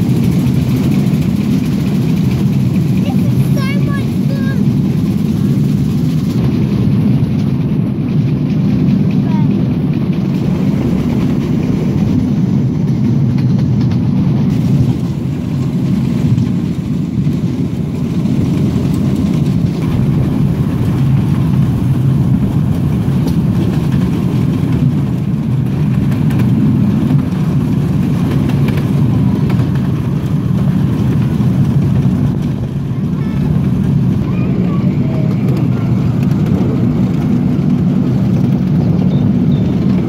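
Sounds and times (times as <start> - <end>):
miniature train rumbling on track: 0.0 - 40.0.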